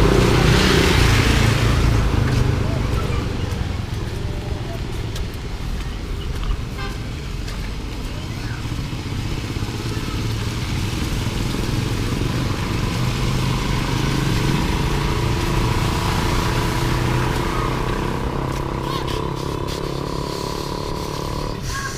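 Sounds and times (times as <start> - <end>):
street noise hiss: 0.0 - 21.9
vehicle engine running: 0.0 - 21.9.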